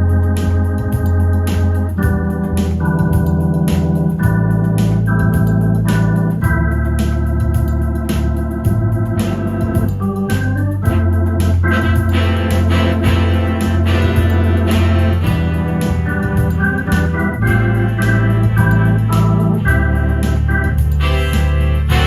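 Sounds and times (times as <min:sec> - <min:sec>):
electronic organ chords: 0:00.0 - 0:22.0
light ticking beat: 0:00.0 - 0:22.0
moving bass line: 0:00.0 - 0:22.0.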